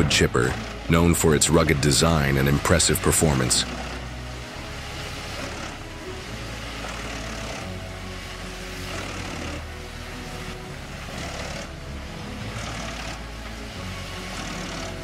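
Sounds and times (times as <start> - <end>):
wood chipper engine hum: 0.0 - 15.0.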